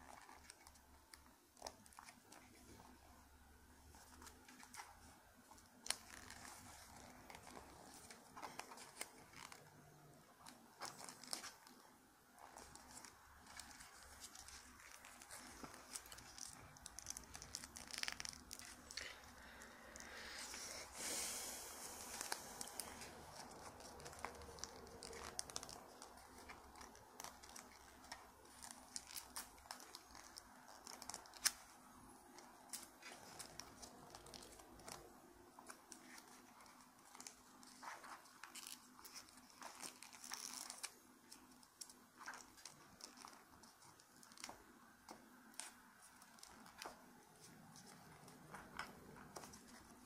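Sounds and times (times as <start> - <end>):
paper being folded and creased: 0.0 - 20.7, 21.8 - 50.0.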